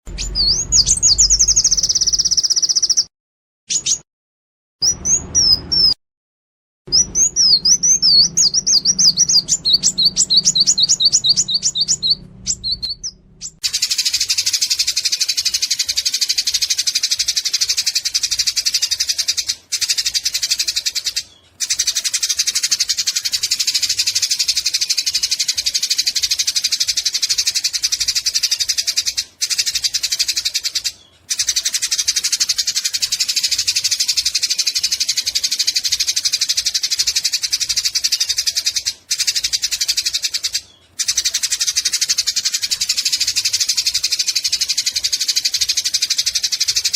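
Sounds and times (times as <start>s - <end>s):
sparrows chattering: 0.1s - 3.1s, 4.8s - 6.0s, 6.9s - 46.9s.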